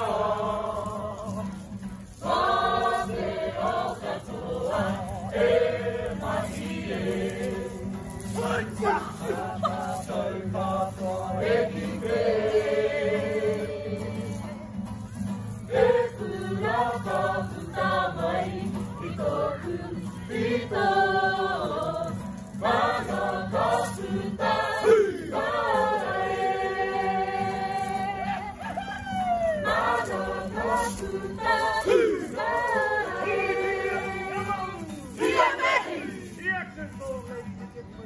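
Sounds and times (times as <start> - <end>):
men and women singing together: 0.0 - 14.7, 15.5 - 36.4.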